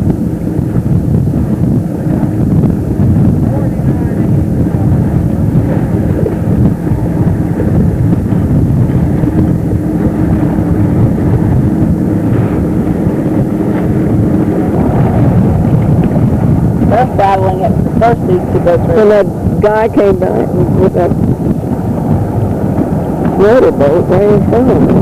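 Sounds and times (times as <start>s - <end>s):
faint steady hum: 0.0s - 25.0s
wind rumbling on microphone: 0.0s - 25.0s.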